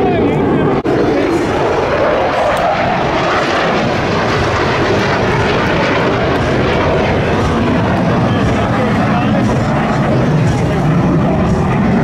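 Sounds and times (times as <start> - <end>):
jet aircraft flying overhead: 0.0 - 12.0.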